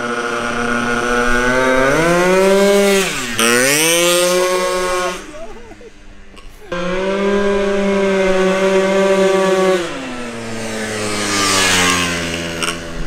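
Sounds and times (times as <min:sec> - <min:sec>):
scooter engine buzzing at full throttle: 0:00.0 - 0:13.0.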